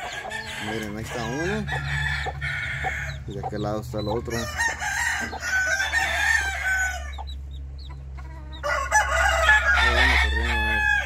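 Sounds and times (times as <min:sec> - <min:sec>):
rooster crowing: 0:00.0 - 0:03.2, 0:04.2 - 0:07.3, 0:08.3 - 0:11.0
steady low hum: 0:00.0 - 0:11.0.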